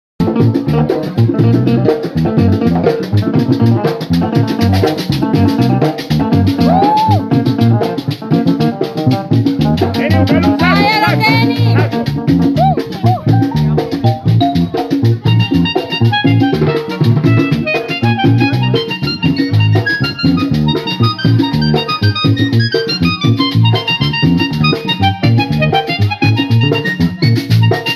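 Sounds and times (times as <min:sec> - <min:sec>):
accordion dance melody: 0:00.2 - 0:27.9
percussion rhythm: 0:00.2 - 0:27.9.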